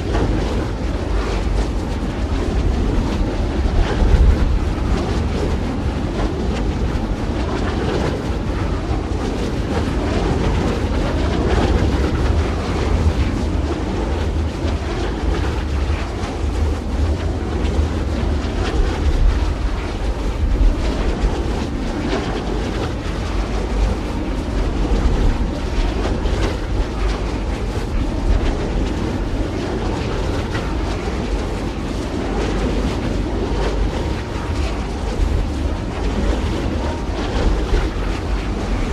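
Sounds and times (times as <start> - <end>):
wind blowing in gusts: 0.0 - 38.9.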